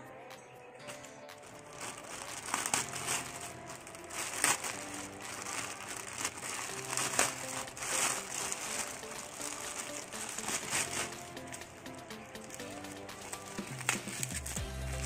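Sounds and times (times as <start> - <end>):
plastic bag crinkling: 1.4 - 11.7, 12.3 - 15.0.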